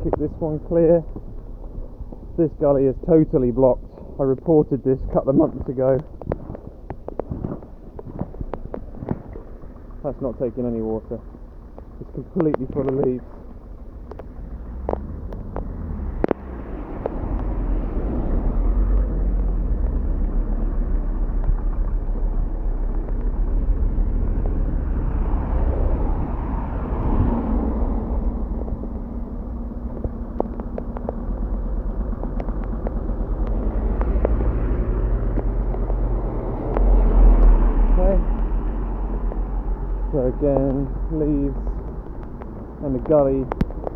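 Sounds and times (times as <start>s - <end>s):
car passing: 0.0s - 43.9s
low rumble: 0.0s - 43.9s.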